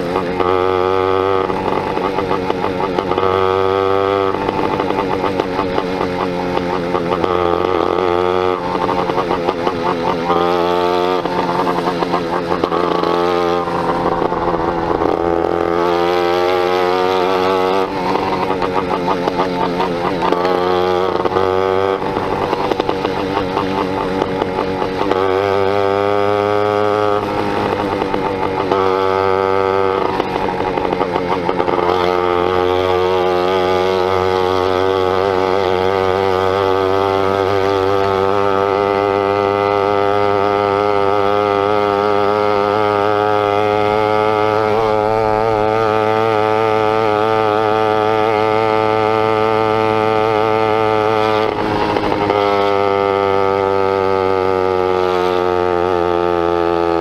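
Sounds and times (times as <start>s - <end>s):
rasping two-stroke engine revving: 0.0s - 57.0s.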